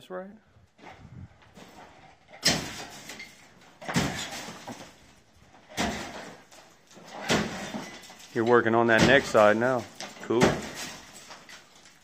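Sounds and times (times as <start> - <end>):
plaster crashing: 1.6 - 12.0.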